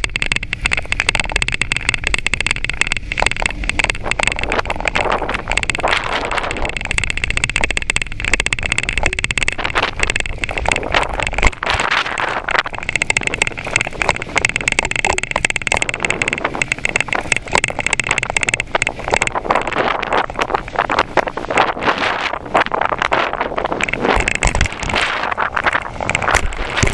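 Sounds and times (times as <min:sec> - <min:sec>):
bicycle frame and basket rattling: 0:00.0 - 0:26.9
wind rumble on microphone: 0:00.0 - 0:26.9.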